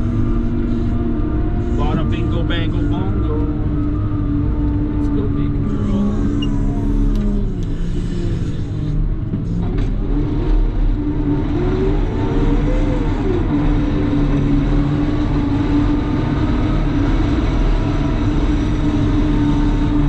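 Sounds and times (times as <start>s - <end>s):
loader diesel engine running: 0.0s - 20.0s.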